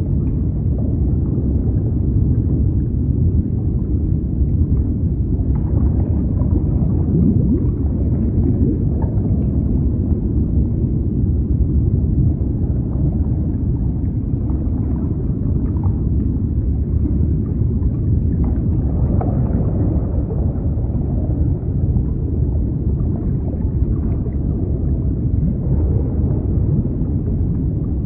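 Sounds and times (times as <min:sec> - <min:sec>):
faint water gurgles: 0:00.0 - 0:28.0
muffled rush of the sea: 0:00.0 - 0:28.0.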